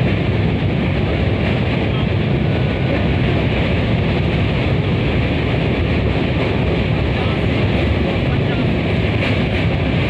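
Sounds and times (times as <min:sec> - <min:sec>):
train rumbling across bridge: 0:00.0 - 0:10.0
wind buffeting microphone: 0:00.0 - 0:10.0.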